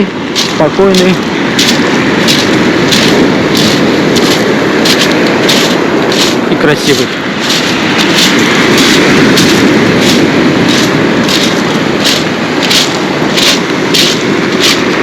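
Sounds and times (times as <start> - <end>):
footsteps on pebbles: 0.0 - 15.0
waves washing on pebbles: 0.0 - 15.0.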